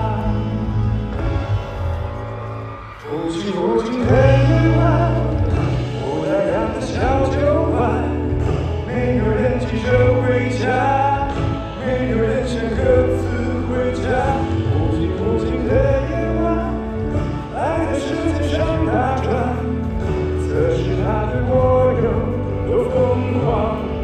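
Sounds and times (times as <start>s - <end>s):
band playing: 0.0s - 24.0s
person singing: 0.0s - 24.0s.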